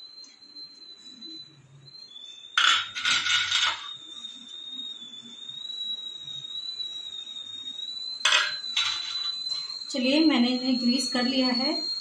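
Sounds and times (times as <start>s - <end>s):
high-pitched whistle: 0.0s - 12.0s.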